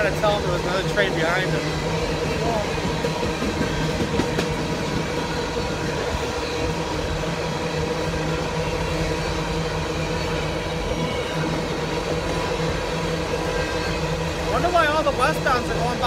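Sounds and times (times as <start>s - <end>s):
steady tones: 0.0s - 16.0s
steel wheels rolling on rails: 0.0s - 16.0s.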